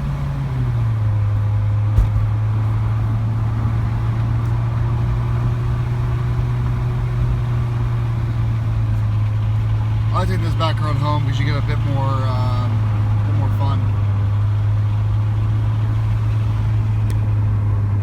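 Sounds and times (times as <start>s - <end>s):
car exhaust drone: 0.0s - 18.0s.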